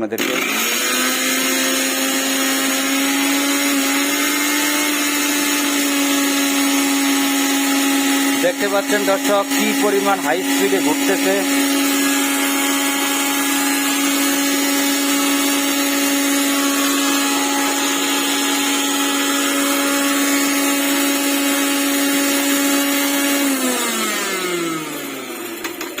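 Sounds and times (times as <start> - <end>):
mixer grinder motor whining: 0.0 - 26.0.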